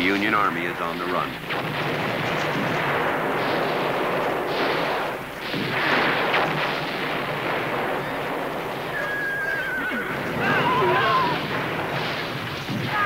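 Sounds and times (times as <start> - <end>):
cannon blasts: 0.0 - 13.0
crackle of gunshots: 0.0 - 13.0.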